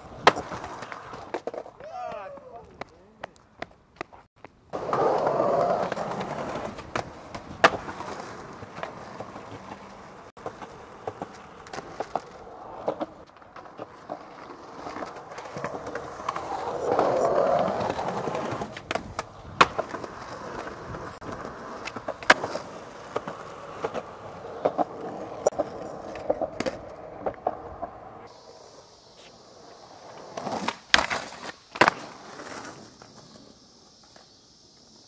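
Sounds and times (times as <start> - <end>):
skateboard rough scraping: 0.0 - 2.8, 4.1 - 35.0
skateboard clacking on ground: 0.0 - 28.3, 29.6 - 34.4
skateboard wheels rolling on pavement: 0.0 - 35.0.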